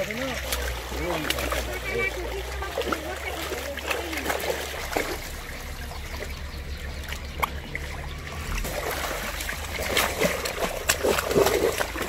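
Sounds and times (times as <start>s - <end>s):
sharp splashes: 0.0s - 12.0s
water sloshing and splashing: 0.0s - 12.0s.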